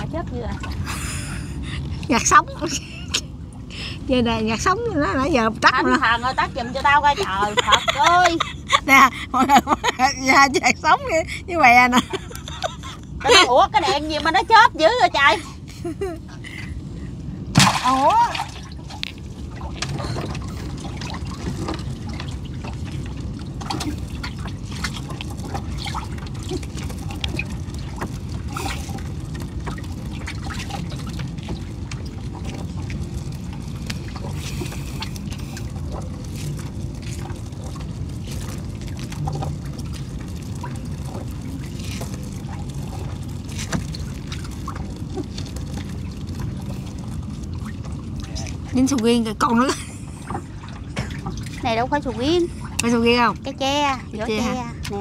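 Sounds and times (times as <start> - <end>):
water dripping and splashing: 0.0 - 15.4, 16.9 - 55.0
steady low rumble: 0.0 - 55.0.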